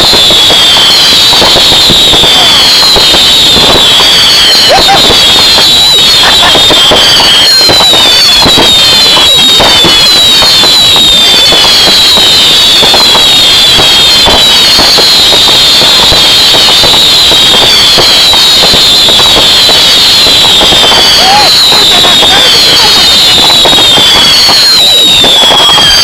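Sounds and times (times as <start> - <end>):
fireworks popping and banging: 0.0 - 26.0
shrill firework whistles: 0.0 - 26.0.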